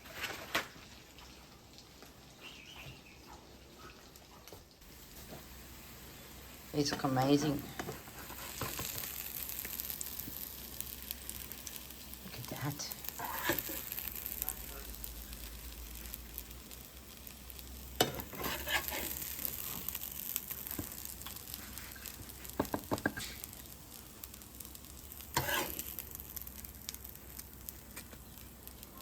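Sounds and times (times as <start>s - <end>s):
patties sizzling in a pan: 0.0s - 29.0s.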